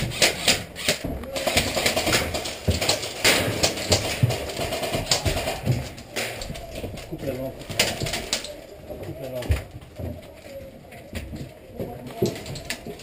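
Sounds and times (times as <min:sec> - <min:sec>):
irregular knocks and clicks: 0:00.0 - 0:13.0.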